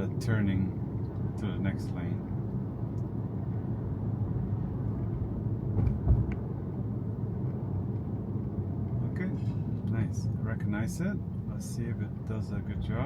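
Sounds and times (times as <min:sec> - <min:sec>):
road and tyre rumble inside car: 0:00.0 - 0:13.0.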